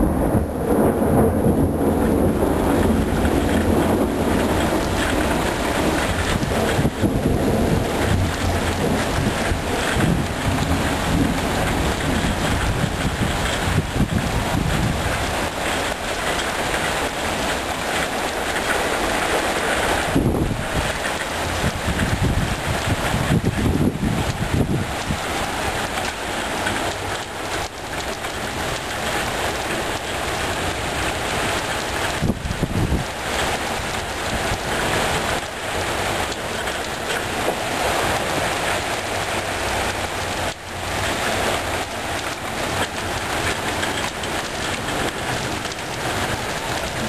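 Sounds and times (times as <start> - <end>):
rain falling: 0.0 - 47.0
wind buffeting microphone: 0.0 - 47.0.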